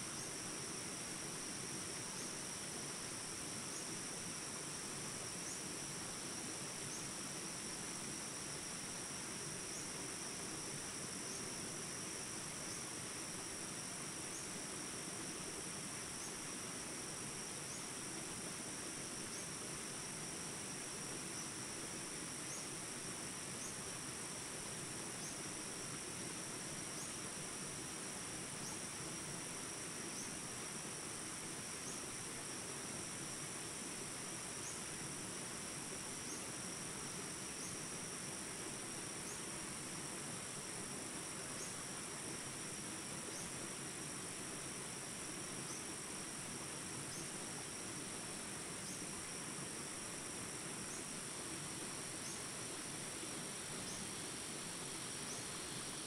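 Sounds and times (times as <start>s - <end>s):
insect chirp: 0.0s - 56.0s
insects trilling: 0.0s - 56.0s.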